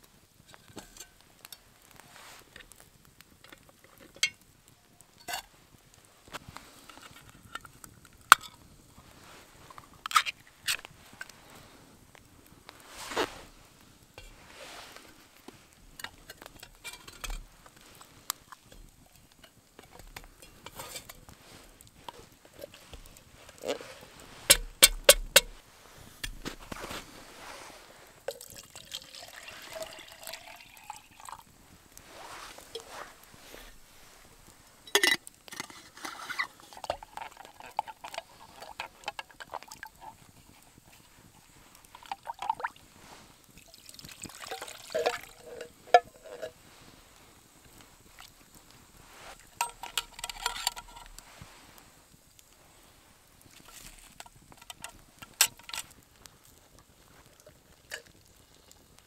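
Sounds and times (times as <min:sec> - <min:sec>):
handling of tin and pot: 0:00.4 - 0:04.4, 0:05.1 - 0:05.6, 0:06.3 - 0:11.4, 0:12.8 - 0:47.0, 0:47.7 - 0:51.8, 0:53.4 - 0:56.3, 0:57.2 - 0:58.8.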